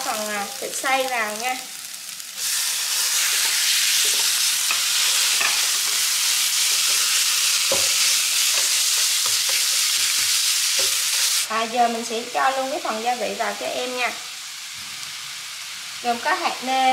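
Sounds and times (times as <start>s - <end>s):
meat sizzling in hot oil: 0.0s - 16.9s.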